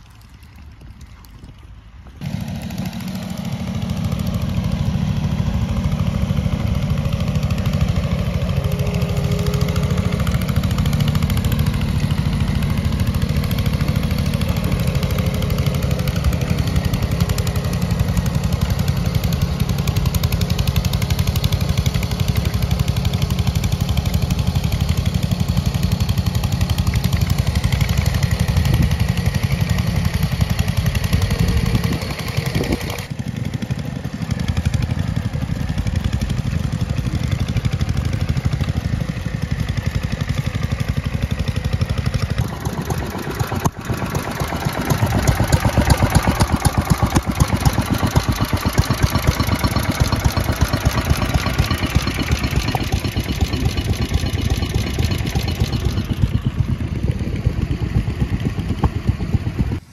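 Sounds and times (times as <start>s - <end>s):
small tractor engines running: 0.0s - 59.9s.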